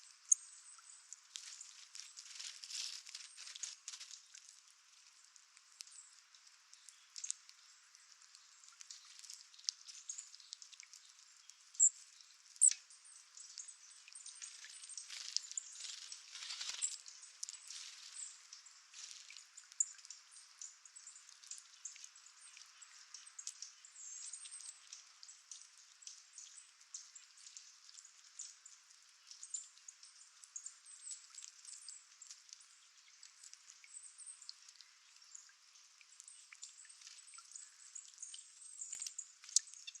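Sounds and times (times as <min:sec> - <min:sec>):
light ticks and patters: 0:00.1 - 0:40.0.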